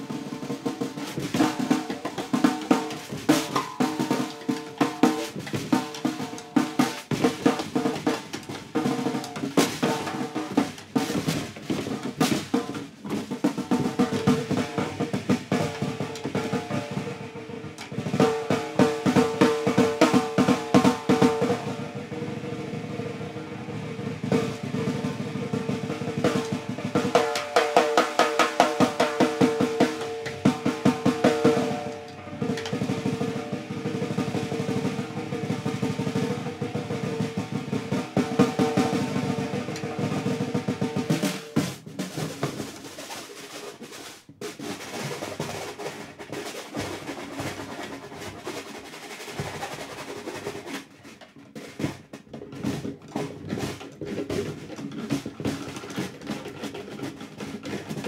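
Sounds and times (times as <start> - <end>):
snare drum roll: 0.0 - 58.0.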